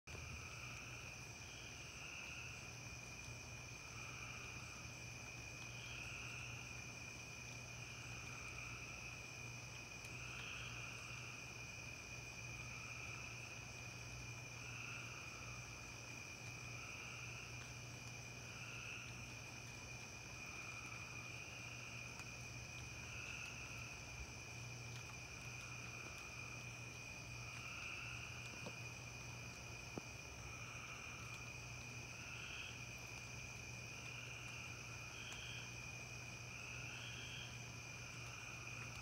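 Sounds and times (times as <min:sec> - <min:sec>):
crickets trilling: 0:00.1 - 0:39.0.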